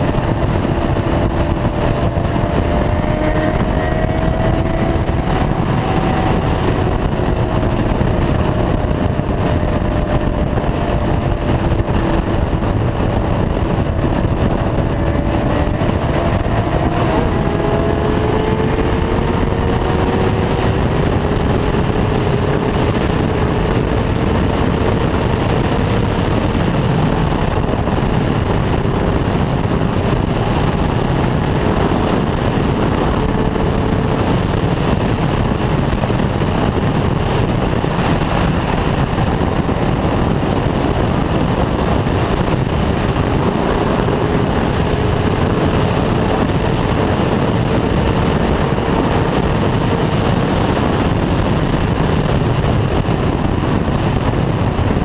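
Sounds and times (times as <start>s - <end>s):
motorcycle engine: 0.0s - 55.0s
road noise: 0.0s - 55.0s
wind noise: 0.0s - 55.0s.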